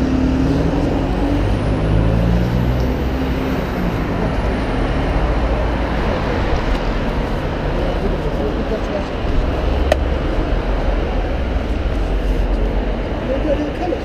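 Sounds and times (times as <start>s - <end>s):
engine and road noise: 0.0s - 14.0s.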